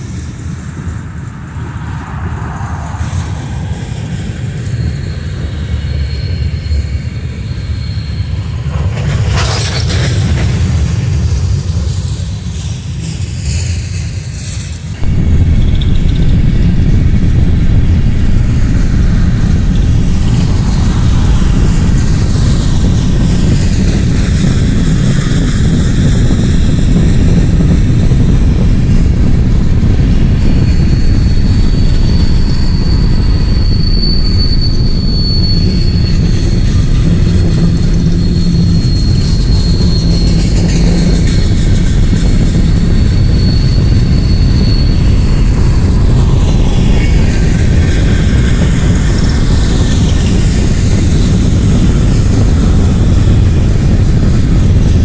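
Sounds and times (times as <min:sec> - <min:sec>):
freight cars rumbling past: 0:00.0 - 0:55.0
railcars rolling on rails: 0:00.0 - 0:55.0
high wheel squeal: 0:00.2 - 0:55.0.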